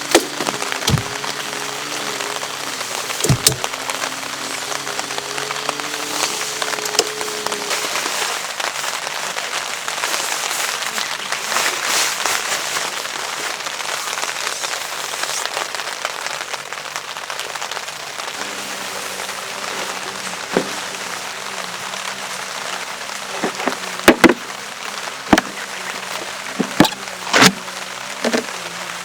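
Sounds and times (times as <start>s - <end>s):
heavy rain hissing: 0.0s - 29.0s
raindrops hitting fabric tarp: 0.0s - 29.0s.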